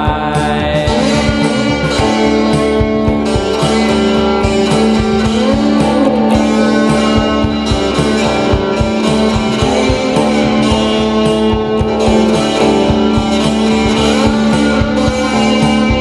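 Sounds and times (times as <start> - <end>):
bending guitar lead notes: 0.0 - 16.0
electric guitar strumming chords: 0.0 - 16.0
steady drum beat: 0.0 - 16.0.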